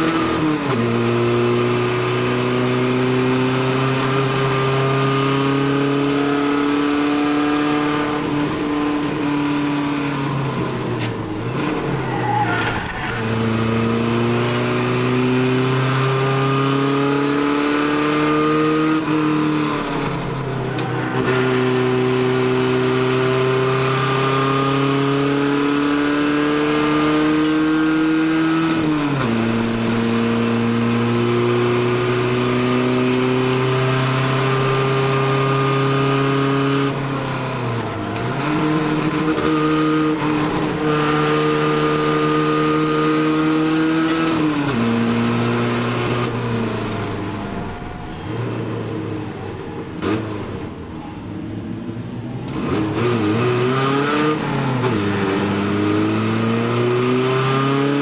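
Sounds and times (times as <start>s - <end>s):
truck engine racing through gears: 0.0s - 58.0s.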